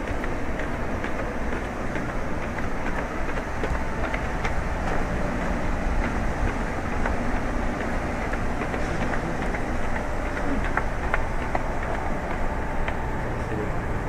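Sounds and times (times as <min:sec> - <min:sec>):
low rumble of vehicles: 0:00.0 - 0:14.0.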